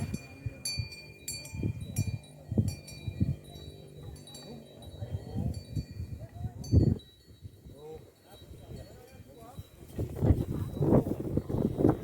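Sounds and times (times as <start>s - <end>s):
cow bells clinking: 0.0s - 12.0s.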